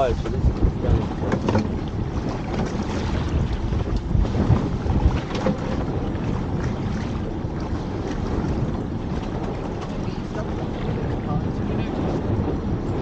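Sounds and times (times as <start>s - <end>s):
choppy sea: 0.0s - 13.0s
wind rumbling on microphone: 0.0s - 13.0s.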